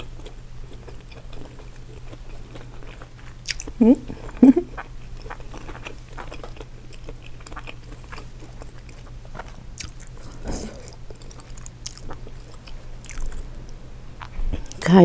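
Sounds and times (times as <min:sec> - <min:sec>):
chewing and biting: 0:00.0 - 0:14.9.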